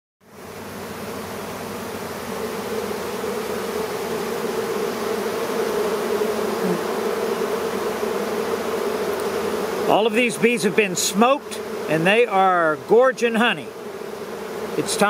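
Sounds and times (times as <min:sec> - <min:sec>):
honeybees buzzing: 0:00.2 - 0:15.0.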